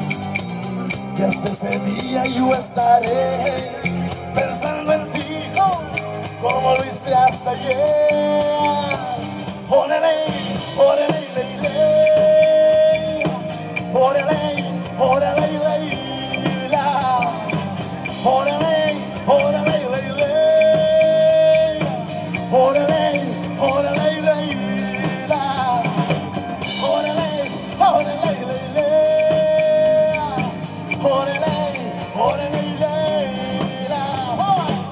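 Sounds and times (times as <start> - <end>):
acoustic guitar: 0.0 - 34.9
congas: 0.0 - 34.9
electric bass: 0.0 - 34.9.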